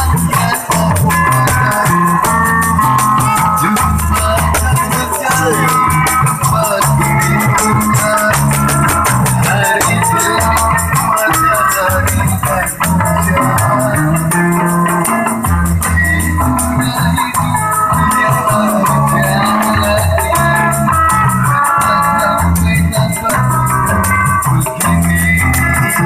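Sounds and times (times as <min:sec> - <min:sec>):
instrumental band music: 0:00.0 - 0:26.0.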